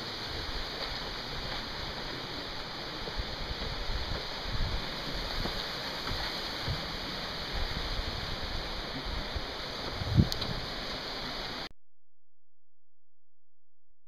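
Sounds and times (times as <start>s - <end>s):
creek rushing: 0.0s - 11.7s.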